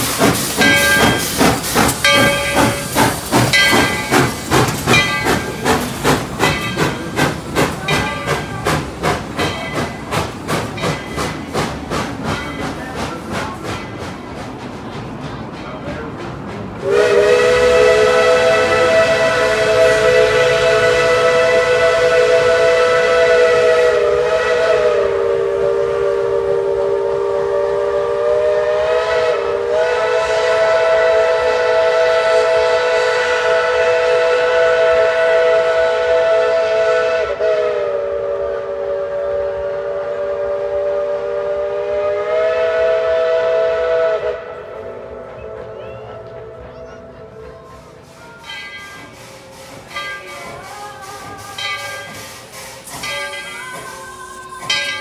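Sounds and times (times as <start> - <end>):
steam locomotive chime whistle: 0.0 - 11.5, 16.8 - 55.0.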